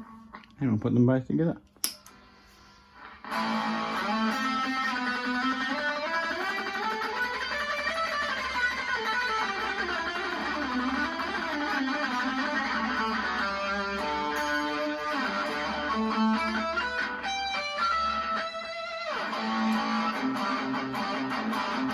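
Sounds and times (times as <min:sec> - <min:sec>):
overdriven electric guitar: 0:03.0 - 0:21.9.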